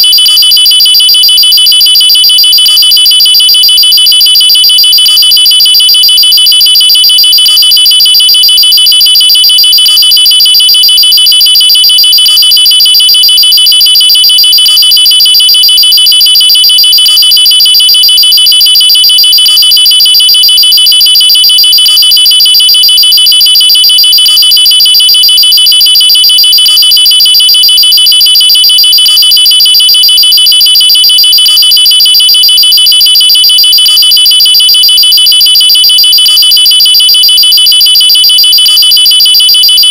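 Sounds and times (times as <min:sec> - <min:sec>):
pulsing electronic alarm tone: 0:00.0 - 0:39.9.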